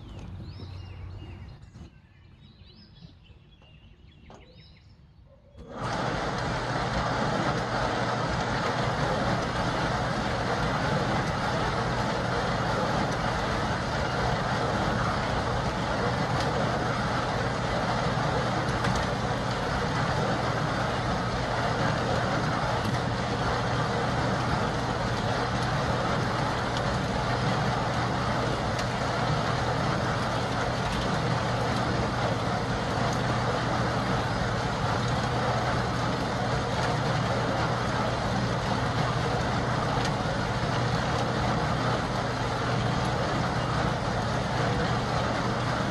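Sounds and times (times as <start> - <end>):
compost tumbling hiss: 5.6 - 45.9
drum turning with low hum: 5.6 - 45.9.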